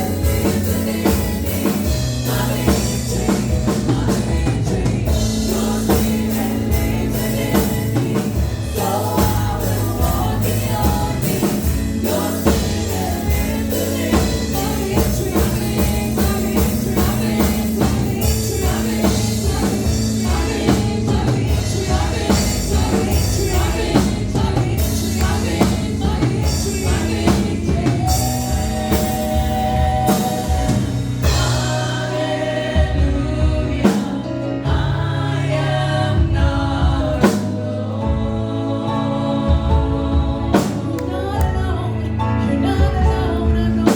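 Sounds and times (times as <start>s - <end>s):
drum kit: 0.0s - 41.8s, 42.7s - 43.9s
bass: 0.0s - 43.9s
singers singing: 0.0s - 43.9s.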